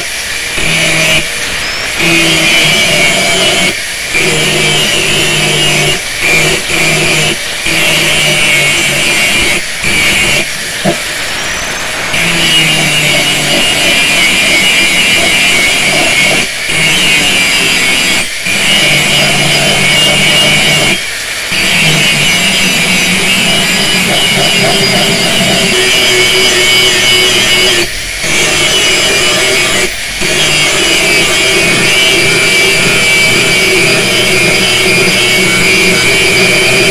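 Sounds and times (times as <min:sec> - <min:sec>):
angle grinder grinding steel: 0:00.0 - 0:36.9.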